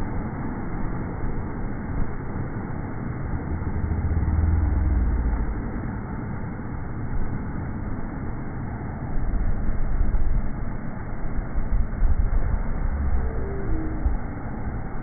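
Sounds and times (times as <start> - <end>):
slowed geyser deep rumble: 0.0 - 15.0.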